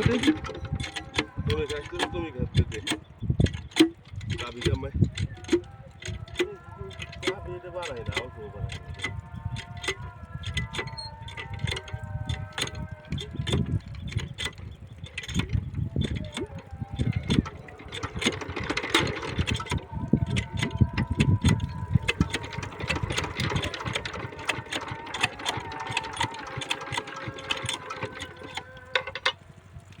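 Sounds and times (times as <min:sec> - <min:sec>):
diesel engine knocking and clattering: 0:00.0 - 0:30.0.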